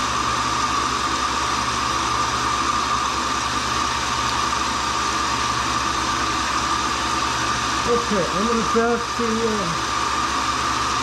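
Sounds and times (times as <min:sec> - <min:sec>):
grinder whine over low hum: 0:00.0 - 0:11.0.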